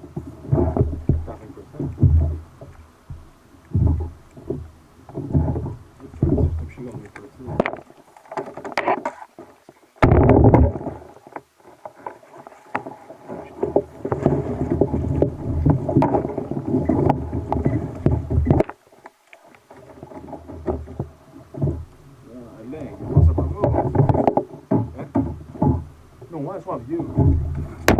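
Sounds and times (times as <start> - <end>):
knocks from boat: 0.0 - 18.8, 19.7 - 22.0, 22.6 - 27.9
water against kayak hull: 0.0 - 27.9.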